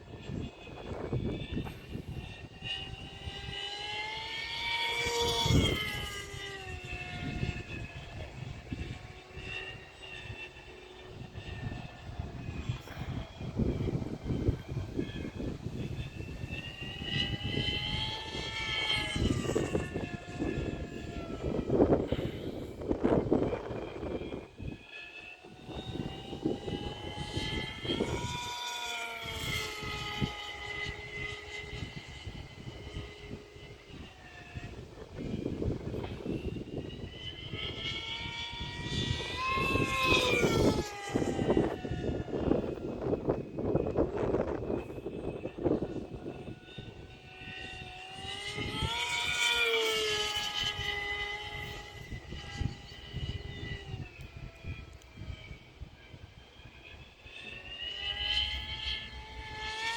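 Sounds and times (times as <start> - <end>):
model airplane motor whine: 0.0 - 59.9
wind buffeting microphone: 0.0 - 59.9.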